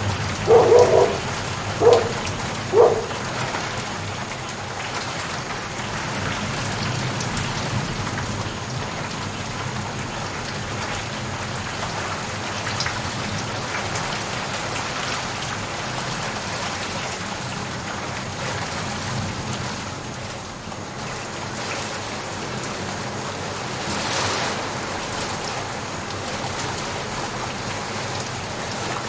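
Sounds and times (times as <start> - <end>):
heavy rain pattering: 0.0 - 29.0.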